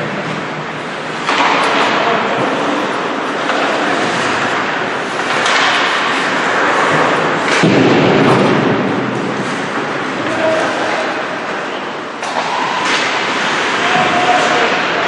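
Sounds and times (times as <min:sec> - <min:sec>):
skate blades scraping ice: 0:01.1 - 0:07.7, 0:08.4 - 0:11.2, 0:12.2 - 0:15.0
puck and sticks knocking boards: 0:01.1 - 0:15.0.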